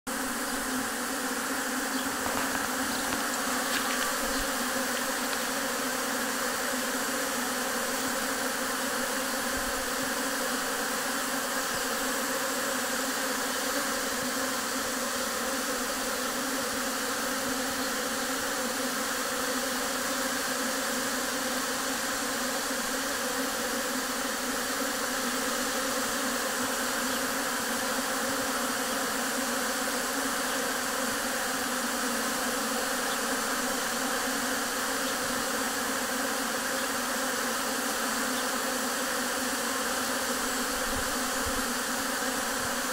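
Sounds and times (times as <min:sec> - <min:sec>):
honeybees humming: 0:00.1 - 0:42.9.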